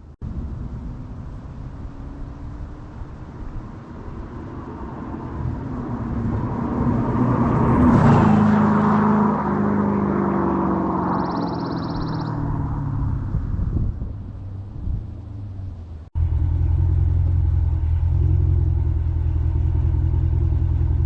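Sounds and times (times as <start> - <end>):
car exhaust driving by: 0.2 - 21.0.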